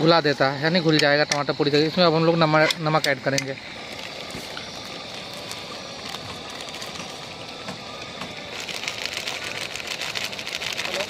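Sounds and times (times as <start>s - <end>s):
food sizzling and crackling in a pot: 0.0s - 11.0s.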